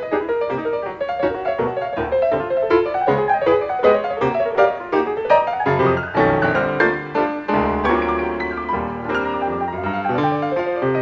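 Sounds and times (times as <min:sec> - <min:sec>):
two pianos playing jazz: 0:00.0 - 0:11.0.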